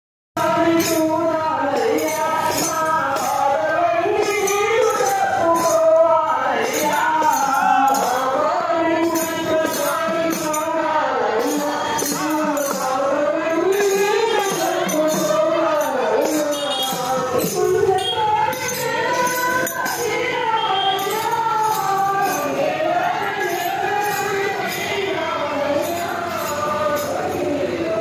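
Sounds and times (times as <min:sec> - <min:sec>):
men singing together: 0:00.4 - 0:28.0
tambourines jingling: 0:00.4 - 0:28.0.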